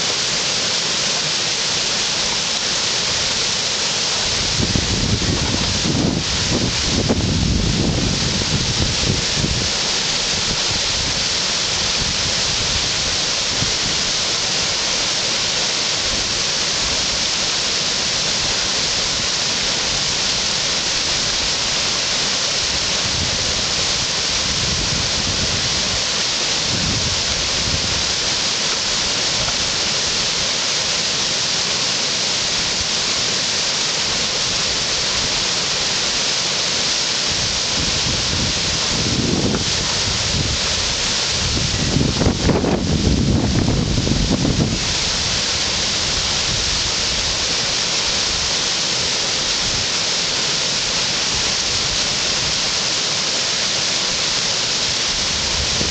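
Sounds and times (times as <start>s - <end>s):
whitewater rapids rushing: 0.0s - 55.9s.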